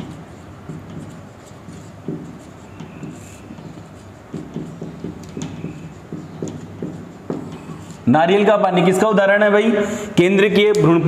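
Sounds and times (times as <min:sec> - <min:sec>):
marker pen writing on whiteboard: 0:00.0 - 0:09.0.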